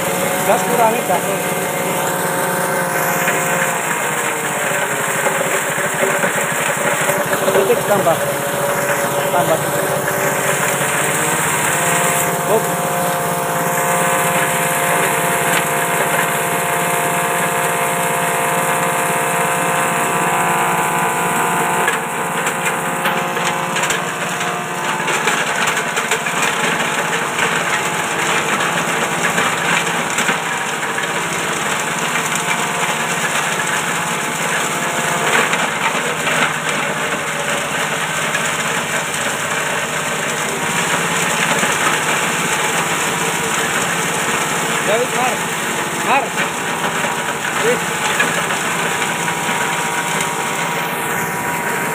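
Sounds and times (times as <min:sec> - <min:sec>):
plant material being shredded: 0:00.0 - 0:51.9
small petrol engine running: 0:00.0 - 0:51.9.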